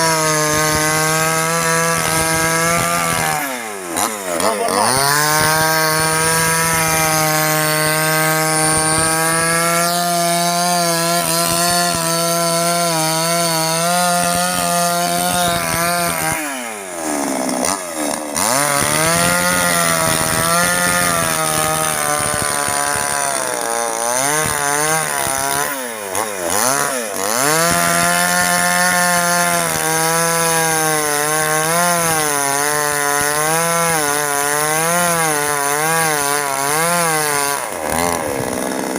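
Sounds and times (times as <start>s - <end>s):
chainsaw cutting at high revs: 0.0s - 38.9s.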